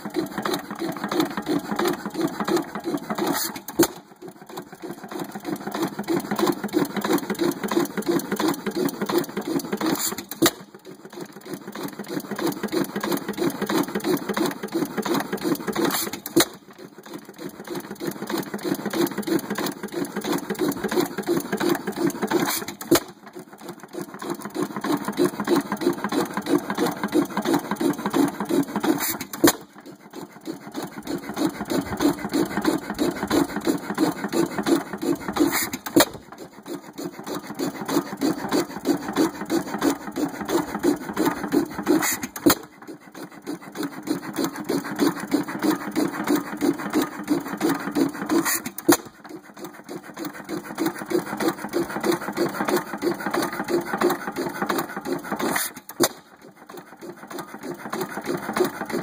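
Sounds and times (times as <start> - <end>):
stationary engine clatter: 0.0 - 59.0.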